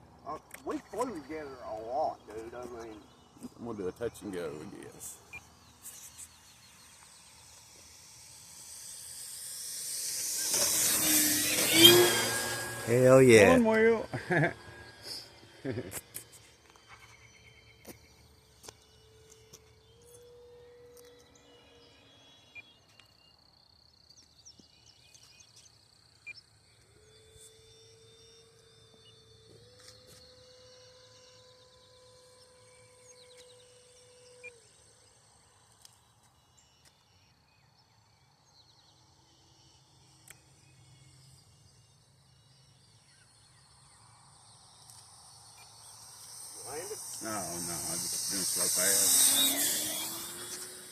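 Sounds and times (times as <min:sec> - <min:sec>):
distant model airplane motor hum: 0:00.0 - 0:50.9
insects chirping: 0:00.0 - 0:50.9.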